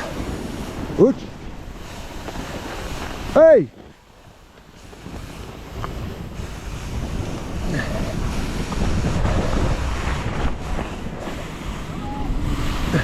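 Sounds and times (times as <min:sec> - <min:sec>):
skis running over snow: 0:00.0 - 0:13.0
wind rushing over microphone: 0:00.0 - 0:13.0.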